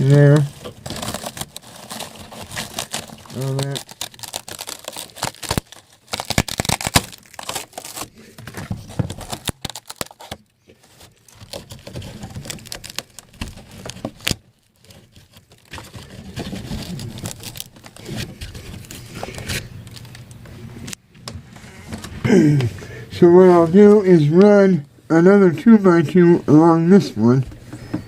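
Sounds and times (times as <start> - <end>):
crinkling and rustling: 0.0 - 28.0.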